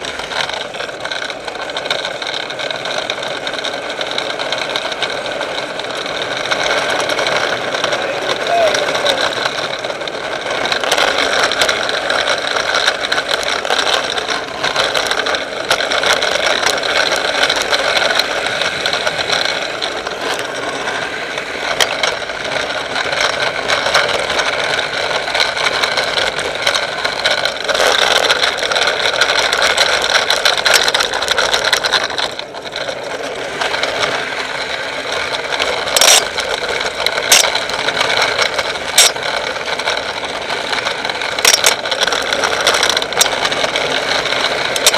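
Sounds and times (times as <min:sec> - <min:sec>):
rattles: 0:00.0 - 0:44.9
vehicle running with road rumble: 0:00.0 - 0:44.9.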